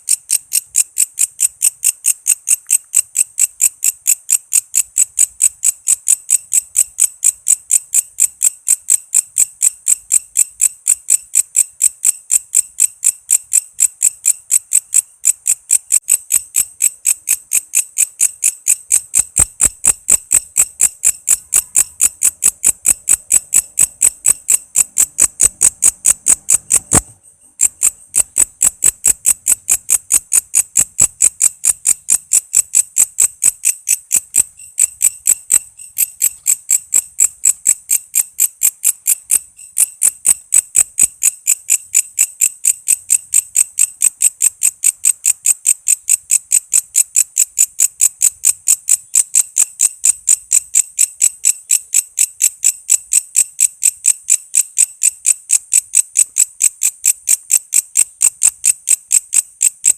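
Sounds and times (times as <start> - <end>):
insect high-pitched chirps: 0.0 - 59.9.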